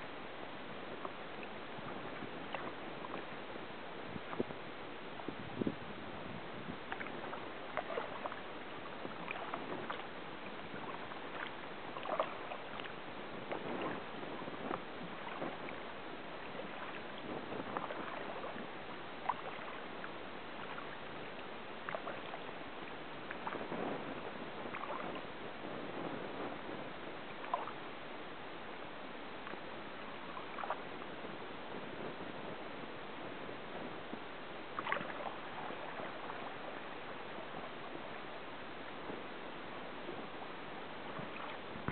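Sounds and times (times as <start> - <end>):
paddle splashing in water: 0.8 - 41.9.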